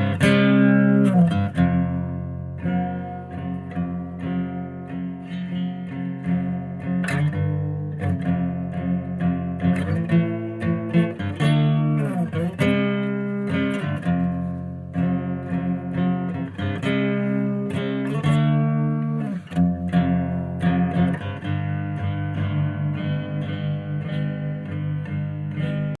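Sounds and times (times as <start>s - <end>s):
guitar notes with pitch slides: 0.0s - 26.0s.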